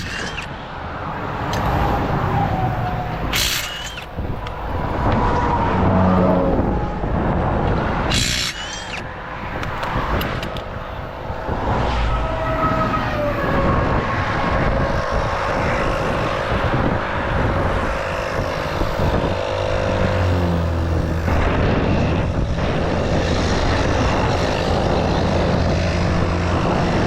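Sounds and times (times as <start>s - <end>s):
highway traffic passing: 0.0s - 27.0s
vehicle whine passing: 0.0s - 27.0s.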